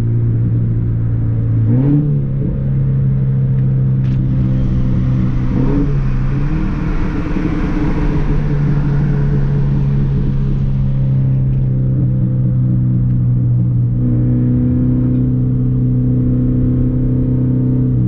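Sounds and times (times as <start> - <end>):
car engine loud exhaust note: 0.0 - 18.0.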